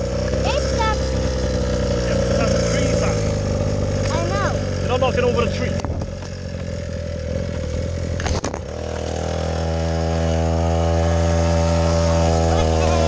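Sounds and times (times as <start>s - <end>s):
engine clunk: 0.0s - 9.6s, 11.8s - 13.0s
small engine running: 0.0s - 13.0s.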